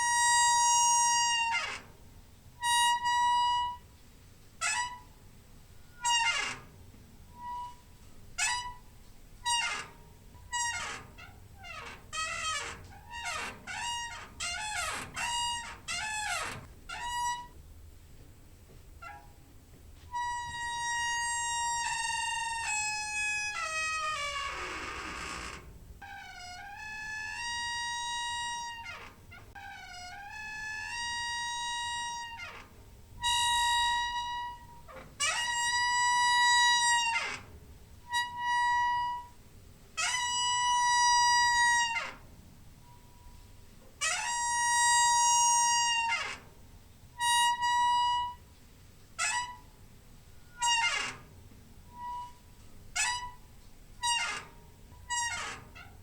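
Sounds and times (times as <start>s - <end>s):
creaky door hinge squeaking: 0.0s - 3.9s, 4.6s - 17.6s, 19.0s - 19.4s, 20.1s - 43.4s, 44.0s - 48.5s, 49.2s - 56.0s.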